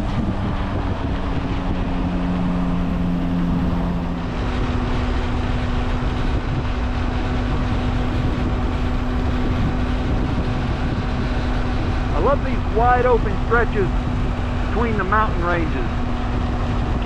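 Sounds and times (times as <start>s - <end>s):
lower hum: 0.0s - 17.0s
motorcycle engine hum: 0.0s - 17.0s
wind rush over microphone: 0.0s - 17.0s.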